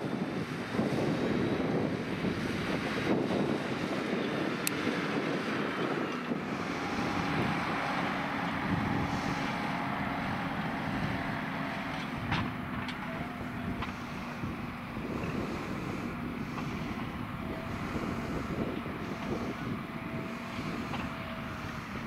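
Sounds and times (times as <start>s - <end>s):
wind noise on microphone: 0.0s - 22.0s
tractor engine running: 0.4s - 22.0s.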